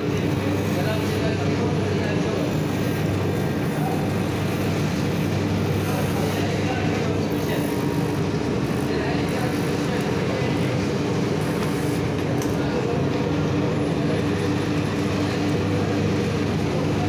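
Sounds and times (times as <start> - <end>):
workshop machinery humming: 0.0 - 17.0.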